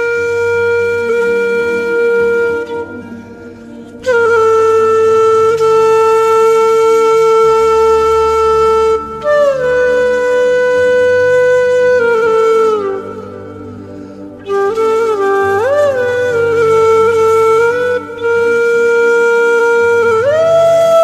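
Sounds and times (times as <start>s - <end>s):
flute long held notes: 0.0s - 21.0s.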